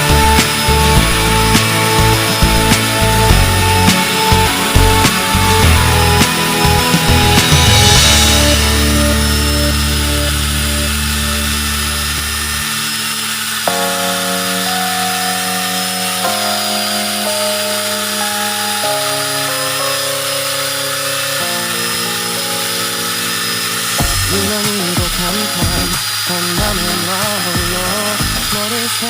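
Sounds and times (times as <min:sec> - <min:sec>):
background music with sustained chords: 0:00.0 - 0:28.0
angle grinder whining: 0:00.0 - 0:29.0.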